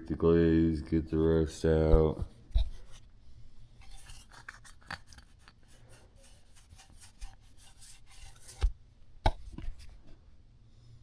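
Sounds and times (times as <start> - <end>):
scratching and rubbing handling noise: 0.8 - 10.3.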